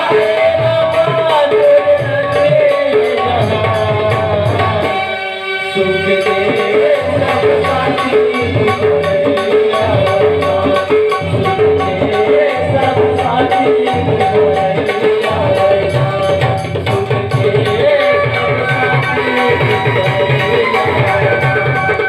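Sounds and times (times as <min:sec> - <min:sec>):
hand drum rhythm: 0:00.0 - 0:05.0, 0:06.3 - 0:22.0
held melody line: 0:00.0 - 0:22.0.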